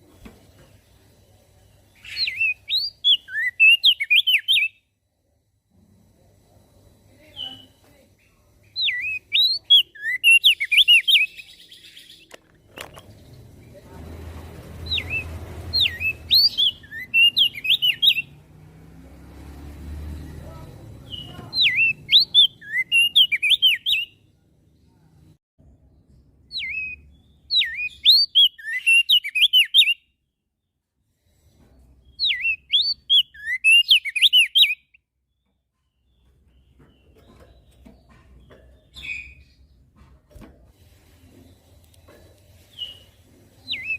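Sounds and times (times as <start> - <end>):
bird chirping song: 0.0 - 5.1, 7.1 - 43.9.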